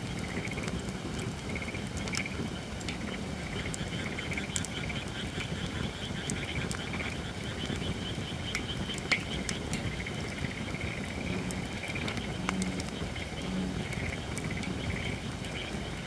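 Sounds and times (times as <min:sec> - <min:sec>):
campfire crackling and popping: 0:00.0 - 0:16.0
frogs trilling chorus: 0:03.1 - 0:16.0.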